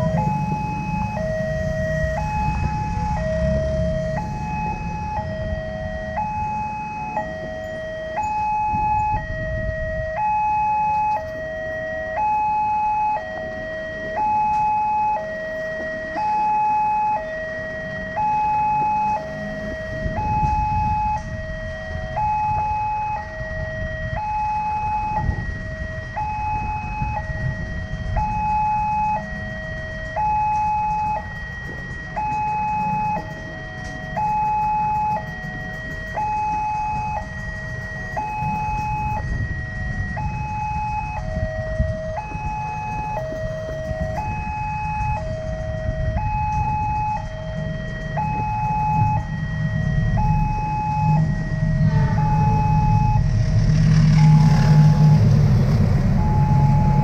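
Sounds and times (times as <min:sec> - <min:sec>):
level crossing warning siren: 0:00.0 - 0:57.0
low rumble: 0:00.0 - 0:57.0.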